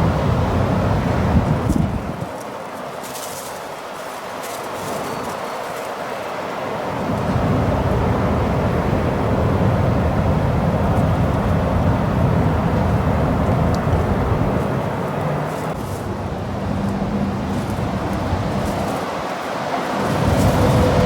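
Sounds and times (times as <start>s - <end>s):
strong wind on microphone: 0.0s - 3.7s, 4.5s - 21.0s.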